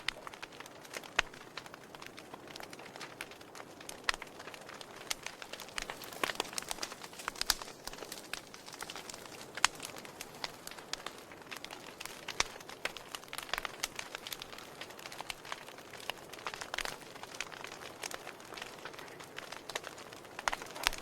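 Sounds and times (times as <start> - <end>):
open fire crackling: 0.0 - 21.0.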